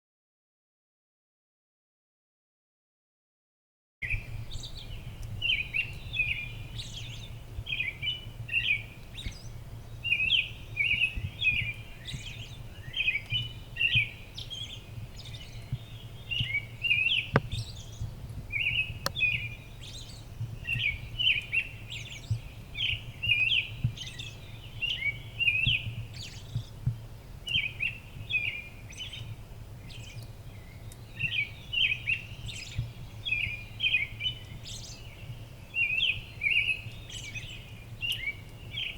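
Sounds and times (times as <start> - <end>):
birds chirping: 4.0 - 38.9.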